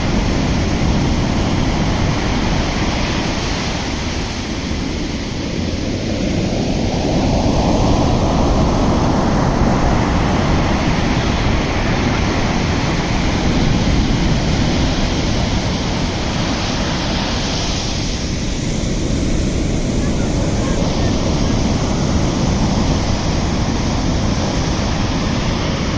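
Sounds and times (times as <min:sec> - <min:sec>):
sea surf washing ashore: 0:00.0 - 0:25.9
wind rumbling on microphone: 0:00.0 - 0:25.9.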